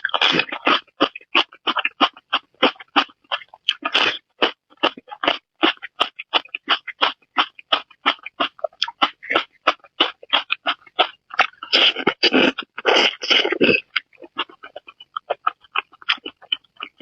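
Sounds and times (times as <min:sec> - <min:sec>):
person chewing with wet smacks: 0:00.0 - 0:17.0.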